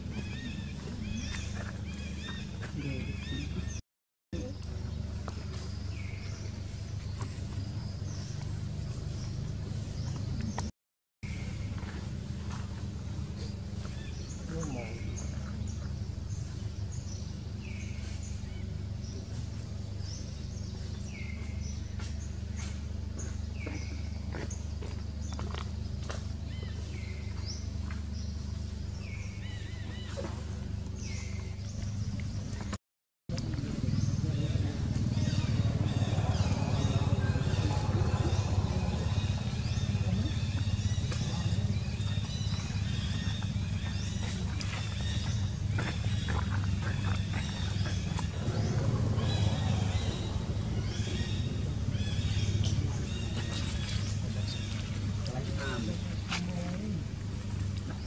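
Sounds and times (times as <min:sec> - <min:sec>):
rustles and clicks of leaves: 0:04.4 - 0:10.7, 0:11.3 - 0:58.0
steady low rumble: 0:04.4 - 0:58.0.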